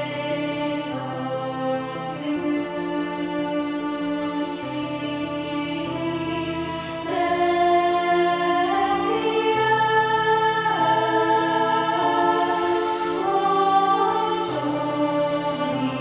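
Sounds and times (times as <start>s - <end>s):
girls' choir singing held notes: 0.0s - 16.0s.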